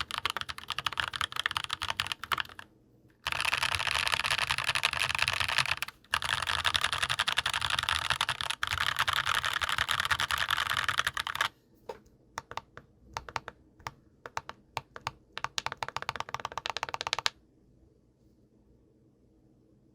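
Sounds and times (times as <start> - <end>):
mechanical keyboard typing: 0.0 - 11.5, 12.4 - 17.4.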